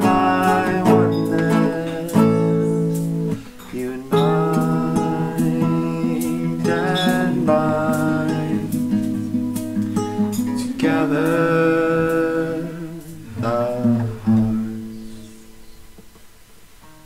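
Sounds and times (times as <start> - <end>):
person singing: 0.0 - 15.4
acoustic guitar: 0.0 - 17.0.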